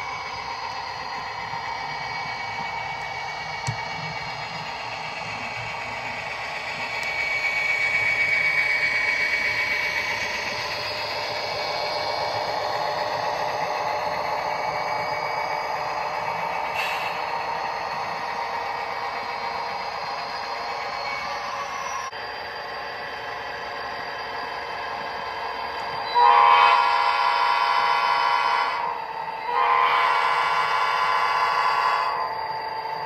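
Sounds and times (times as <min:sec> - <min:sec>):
electric motors whining: 0:00.0 - 0:29.8.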